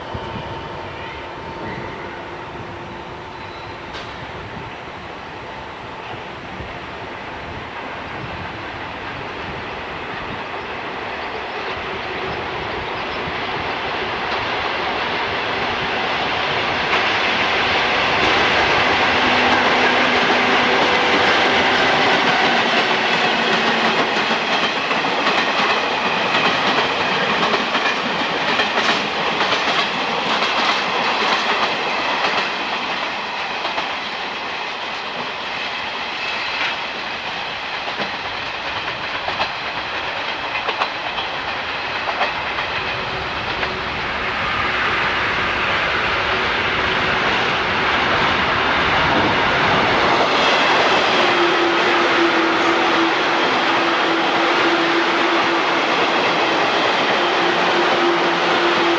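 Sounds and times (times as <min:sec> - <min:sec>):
electric train passing: 0:00.0 - 0:58.9
train wheels clacking over rail joints: 0:09.0 - 0:58.9.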